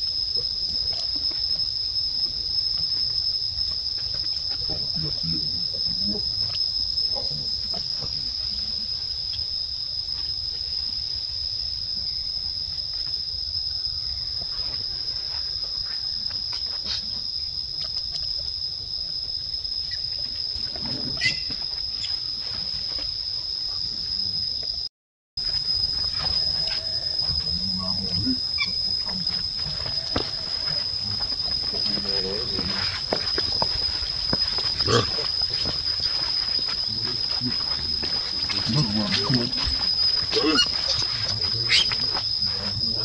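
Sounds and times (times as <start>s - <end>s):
high-pitched insect drone: 0.0s - 24.8s, 25.4s - 43.0s.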